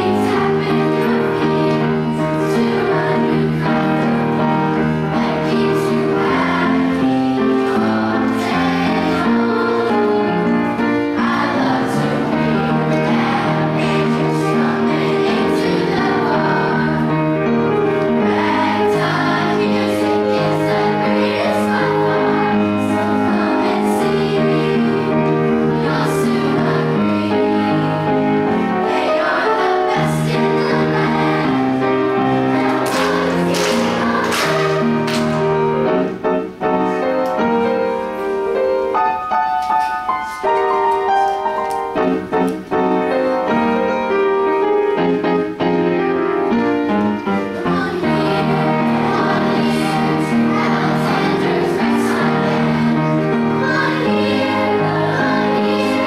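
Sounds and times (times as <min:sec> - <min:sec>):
children's choir singing: 0:00.0 - 0:56.0
piano accompaniment: 0:00.0 - 0:56.0.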